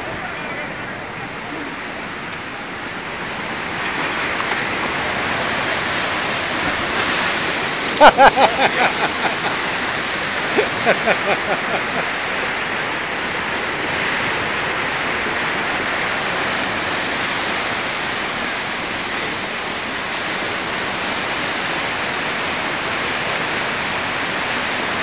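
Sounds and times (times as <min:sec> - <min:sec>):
floodwater rushing: 0:00.0 - 0:25.0.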